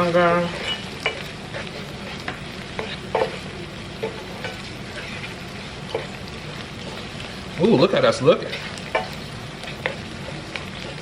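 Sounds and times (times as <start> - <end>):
onions sizzling in a skillet: 0.0 - 11.0.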